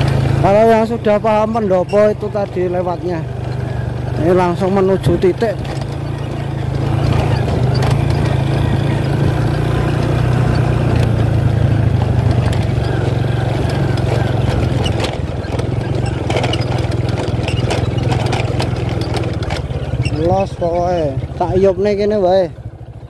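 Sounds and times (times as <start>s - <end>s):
knocks and rattles: 0.0s - 21.8s
small engine running: 0.0s - 23.0s.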